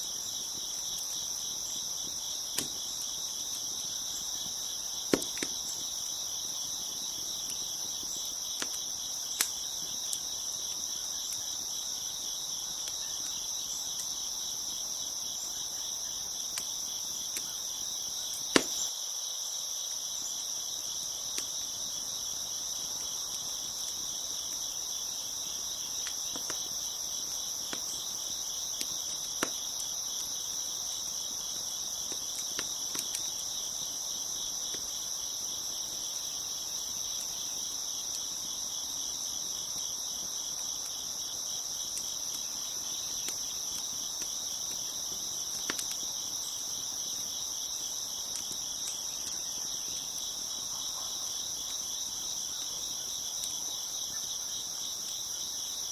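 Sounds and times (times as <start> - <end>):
wood fire pops and crackles: 0.0 - 18.9, 20.8 - 50.7, 51.4 - 53.7
crickets chirping: 0.0 - 55.9.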